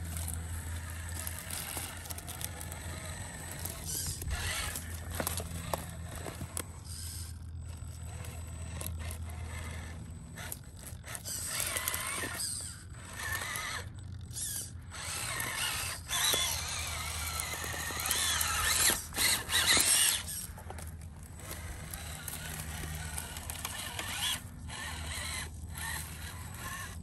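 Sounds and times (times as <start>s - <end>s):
toy car motor whining: 0.0s - 27.0s.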